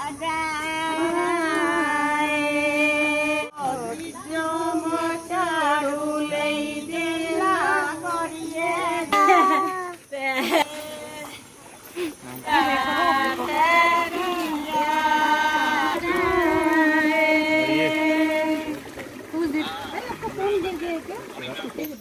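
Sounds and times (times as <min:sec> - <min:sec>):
women singing devotional song: 0:00.0 - 0:11.4, 0:12.4 - 0:21.1.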